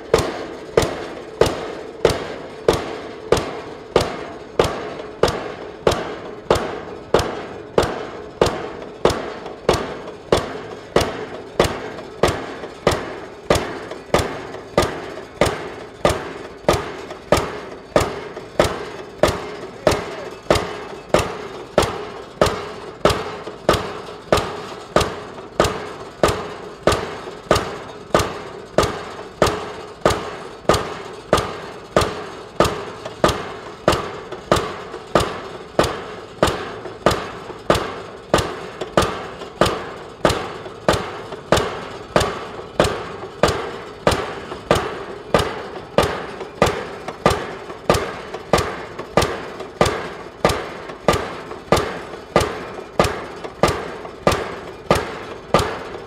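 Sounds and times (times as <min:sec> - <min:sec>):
pile hammer blows: 0:00.0 - 0:56.0.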